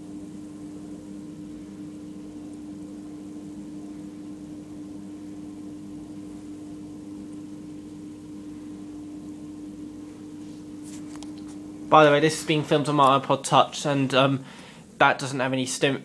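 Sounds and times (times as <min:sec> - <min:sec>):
dishwasher pump humming: 0:00.0 - 0:16.0.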